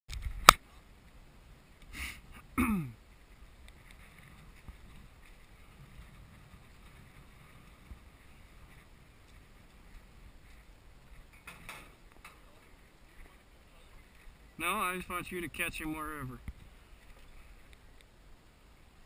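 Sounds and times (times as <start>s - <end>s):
faint wind: 0.1s - 19.0s.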